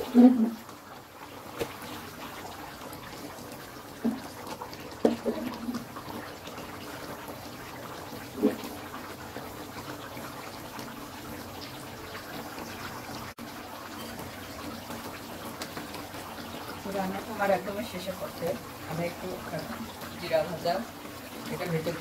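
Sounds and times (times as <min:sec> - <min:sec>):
gravy simmering and bubbling: 0:00.0 - 0:22.0.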